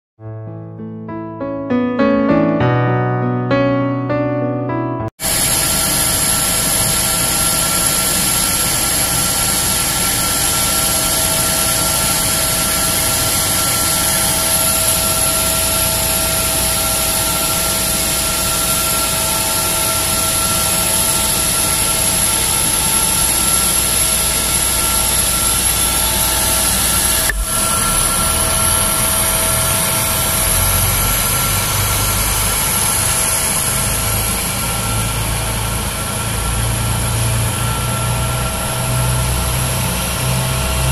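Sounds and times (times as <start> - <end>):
jet turbine whine: 5.2 - 40.9.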